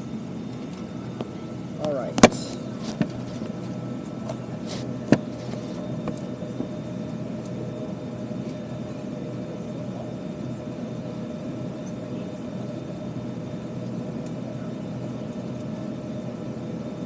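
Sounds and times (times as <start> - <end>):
airplane cabin hum: 0.0 - 17.0.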